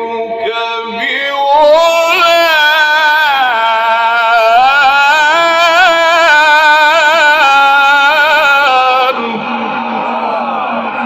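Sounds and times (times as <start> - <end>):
man reciting melodically: 0.0 - 10.4.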